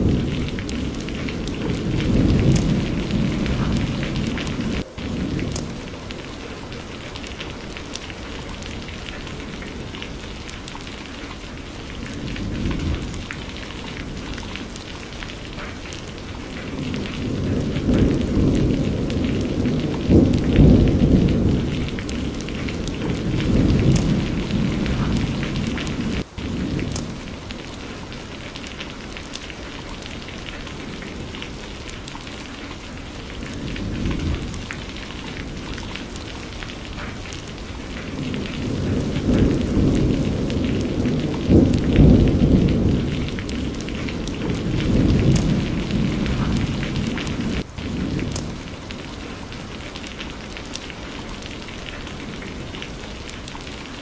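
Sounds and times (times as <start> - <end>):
rolling thunder: 0.0 - 10.5, 11.7 - 28.3, 30.3 - 49.7
steady rain pattering: 0.0 - 54.0.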